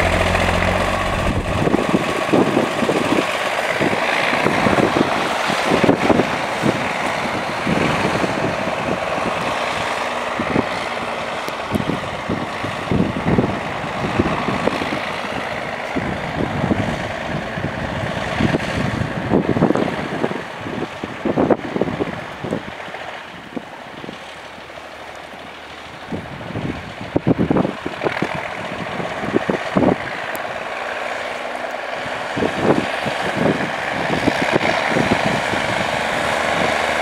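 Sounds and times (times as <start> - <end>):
wind buffeting microphone: 0.0 - 24.2, 25.9 - 30.6, 32.0 - 37.0
truck engine running: 0.0 - 37.0.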